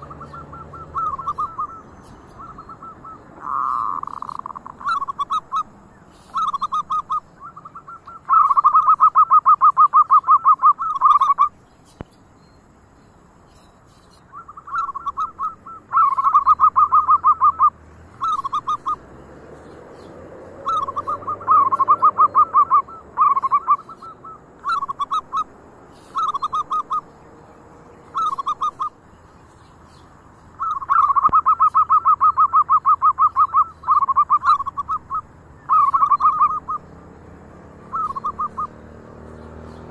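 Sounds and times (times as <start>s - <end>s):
doves cooing: 0.0s - 11.6s, 14.2s - 29.1s, 30.5s - 39.9s.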